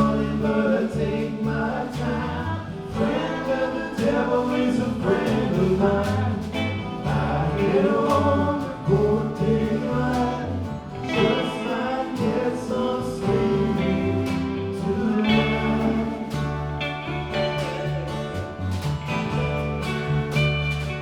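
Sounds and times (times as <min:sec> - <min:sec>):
voices singing together: 0:00.0 - 0:19.4
bass notes: 0:00.0 - 0:21.0
guitar: 0:00.0 - 0:21.0.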